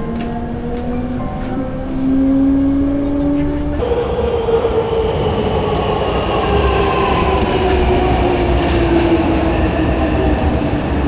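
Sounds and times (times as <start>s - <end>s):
electric train motor whine: 0.0s - 11.0s.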